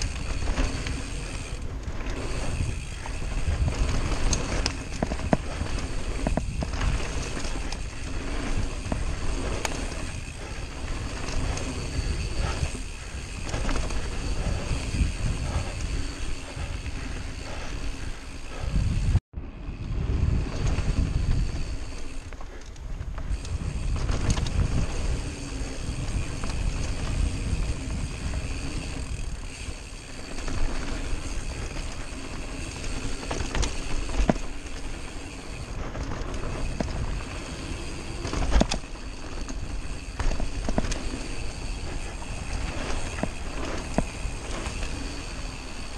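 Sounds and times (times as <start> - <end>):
bike rattling over bumps: 0.0 - 45.9
wind buffeting microphone: 0.0 - 45.9.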